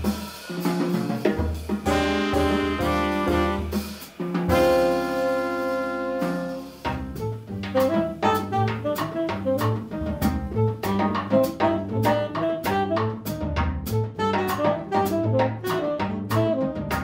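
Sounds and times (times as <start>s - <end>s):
drum and cymbal strokes: 0.0s - 15.8s
upright bass: 0.0s - 17.0s
tenor saxophone melody: 1.9s - 3.8s, 4.5s - 13.3s, 14.0s - 17.0s.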